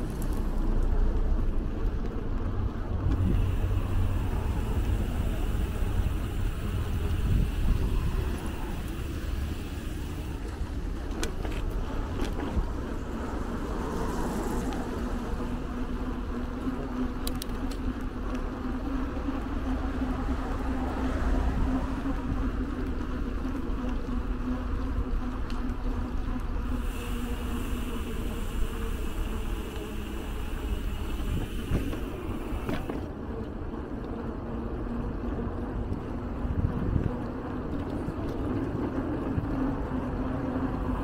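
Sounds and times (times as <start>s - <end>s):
low traffic rumble: 0.0s - 41.0s
steady low hum: 0.0s - 41.0s.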